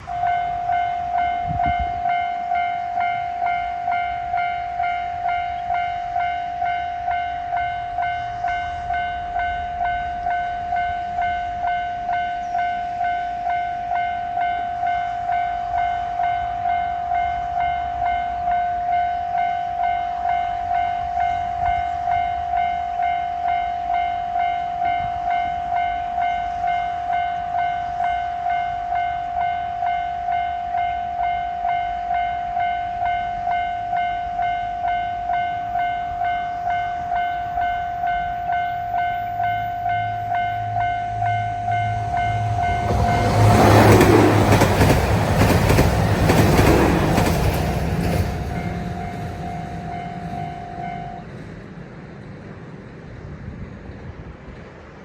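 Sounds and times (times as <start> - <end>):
level-crossing warning bell: 0.0 - 51.6.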